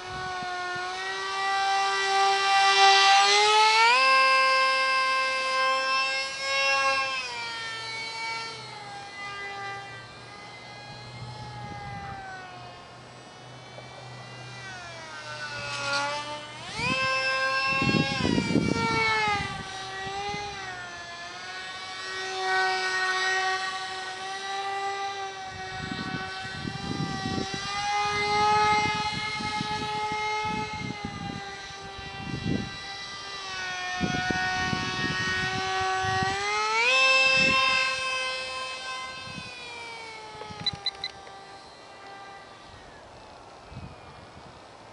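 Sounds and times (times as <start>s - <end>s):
small electric motor whining: 0.0s - 44.9s.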